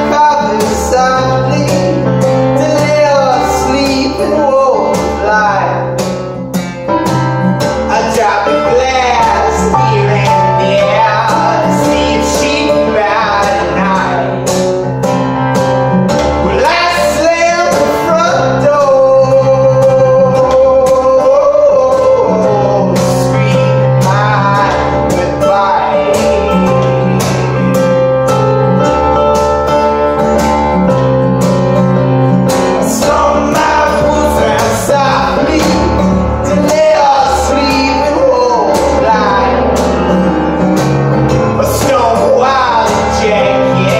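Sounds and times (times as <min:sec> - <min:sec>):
man singing: 0:00.0 - 0:06.4, 0:07.7 - 0:15.2, 0:16.2 - 0:28.9, 0:32.3 - 0:43.9
acoustic guitar strumming: 0:00.0 - 0:43.9
keyboard chords and bass notes: 0:00.0 - 0:43.9.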